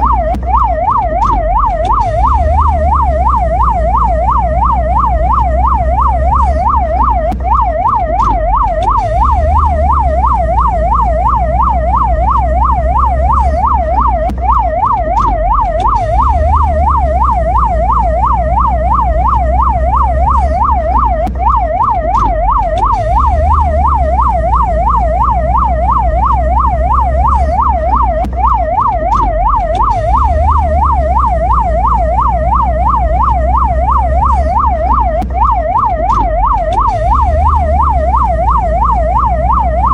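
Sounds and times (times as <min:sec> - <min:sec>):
ambulance siren yelp: 0:00.0 - 0:39.9
steady low rumble: 0:00.0 - 0:39.9.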